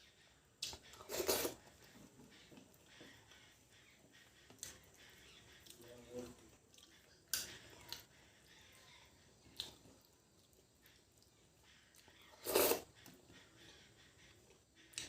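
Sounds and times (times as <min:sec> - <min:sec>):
person eating quietly: 0:00.5 - 0:15.0.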